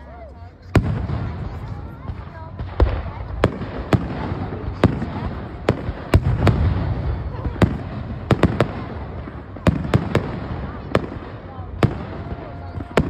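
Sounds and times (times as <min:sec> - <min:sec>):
fireworks bangs: 0:00.6 - 0:13.0.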